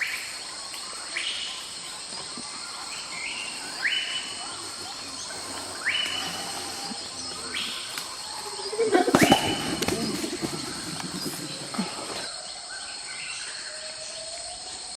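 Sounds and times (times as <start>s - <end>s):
bird calling: 0.0s - 12.4s
high insect drone: 0.0s - 15.0s.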